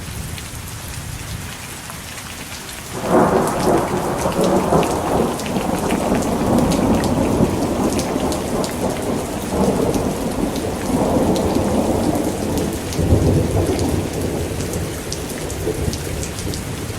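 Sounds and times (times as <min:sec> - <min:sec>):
heavy rain falling: 0:00.0 - 0:16.9
raindrops ticking on a surface: 0:00.0 - 0:16.9
thunder rumbling: 0:02.9 - 0:16.9.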